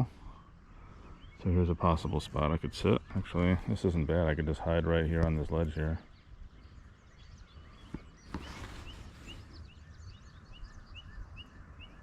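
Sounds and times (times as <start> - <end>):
faint outdoor hiss: 0.0 - 12.0
rising bird chirp: 0.0 - 12.0
small birds calling: 0.0 - 12.0.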